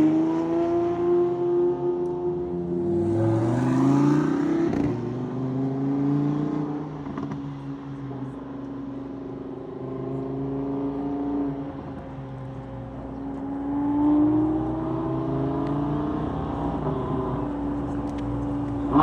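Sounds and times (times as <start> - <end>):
car engine accelerating: 0.0 - 19.0
car engines running: 1.2 - 19.0.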